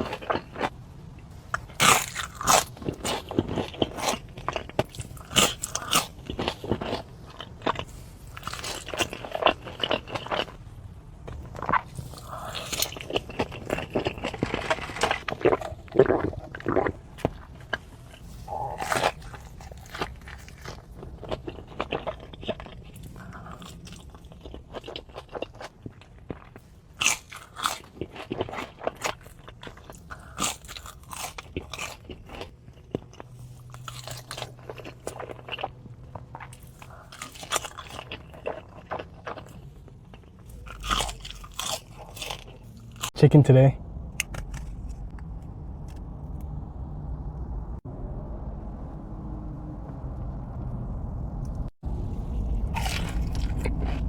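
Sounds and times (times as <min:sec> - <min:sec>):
quiet chewing: 0:00.0 - 0:43.2, 0:51.4 - 0:54.0
crunching fried chicken: 0:00.0 - 0:46.1, 0:51.8 - 0:54.0.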